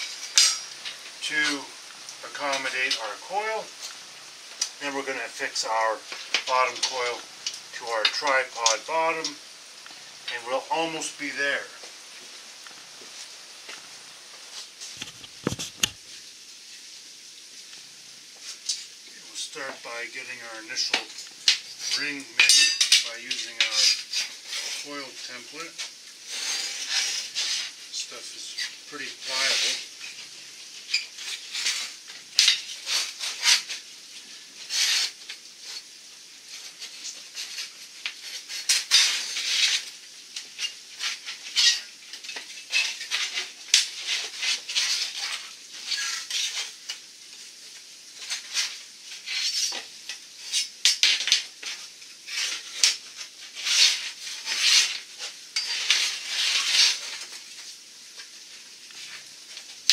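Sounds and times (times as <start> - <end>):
copper tube scraping and creaking: 0.0 - 11.8, 14.6 - 16.0, 18.6 - 30.2, 30.8 - 33.9, 34.6 - 35.9, 36.5 - 47.0, 48.2 - 58.3.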